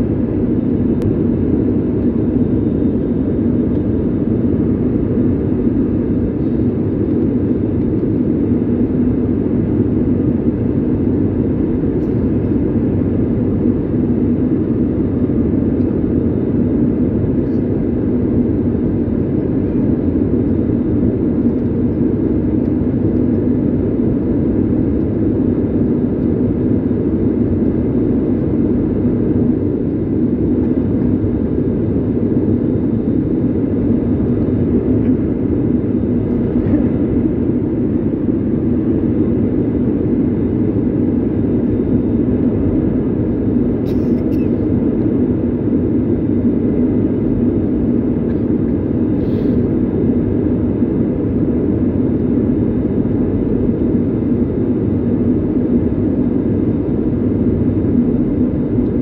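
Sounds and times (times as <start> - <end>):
jet cabin engine drone: 0.0 - 59.0.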